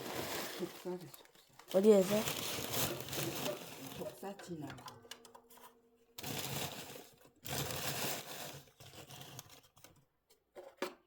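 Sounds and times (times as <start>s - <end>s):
crumpling and rustling: 0.0s - 10.0s.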